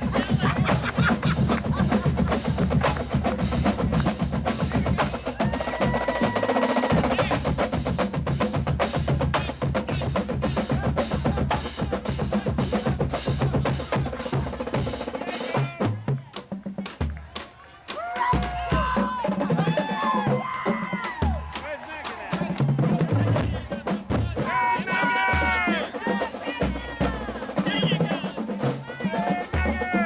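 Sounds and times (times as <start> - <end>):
snare and bass drums marching: 0.0 - 30.0.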